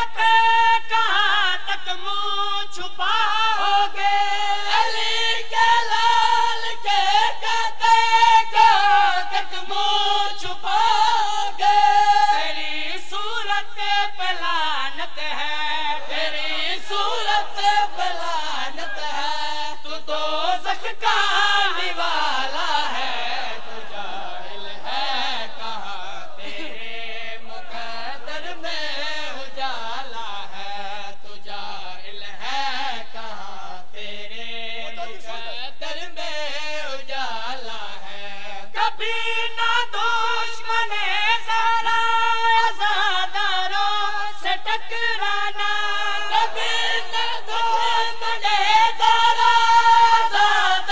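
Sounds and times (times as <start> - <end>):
man chanting: 0.0 - 50.9.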